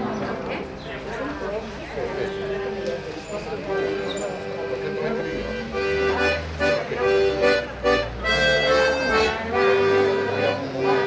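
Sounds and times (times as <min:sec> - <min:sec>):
accordion playing a tune: 0:00.0 - 0:11.0.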